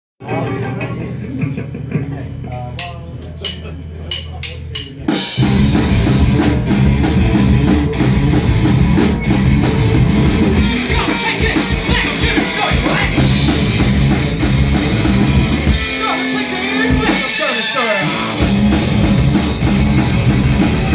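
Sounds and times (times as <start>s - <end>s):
live punk rock band: 0.2s - 20.9s.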